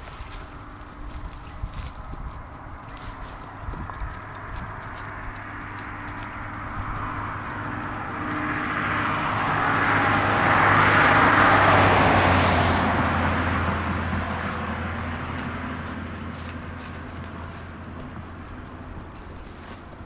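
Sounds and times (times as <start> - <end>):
passing motor vehicle: 0.0 - 20.0.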